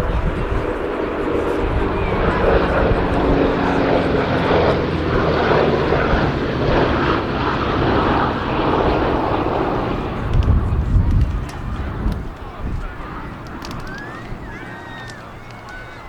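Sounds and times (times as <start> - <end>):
propeller plane flying past: 0.0 - 16.0.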